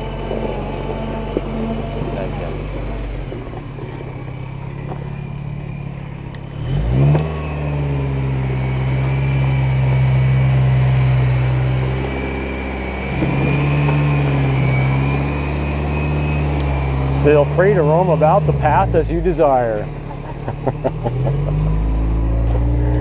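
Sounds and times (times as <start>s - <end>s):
pickup engine revving: 0.0s - 23.0s.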